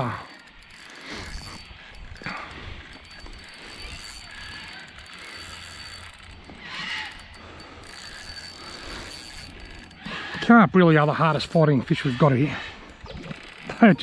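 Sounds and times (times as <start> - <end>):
fishing reel ratcheting and whirring: 0.0 - 14.0.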